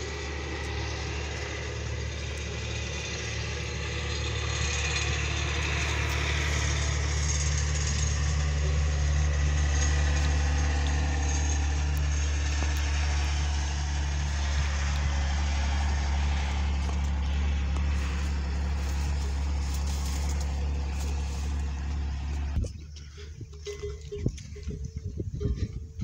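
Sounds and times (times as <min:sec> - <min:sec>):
motor engine humming: 0:00.0 - 0:26.0.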